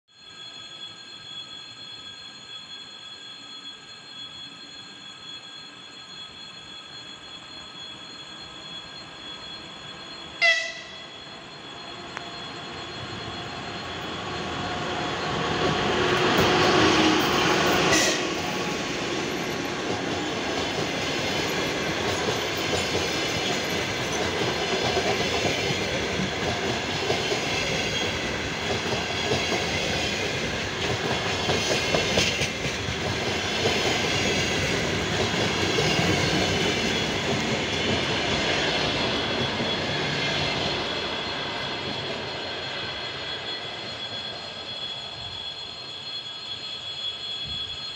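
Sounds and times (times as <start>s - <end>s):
diesel locomotive passing: 6.4s - 47.9s.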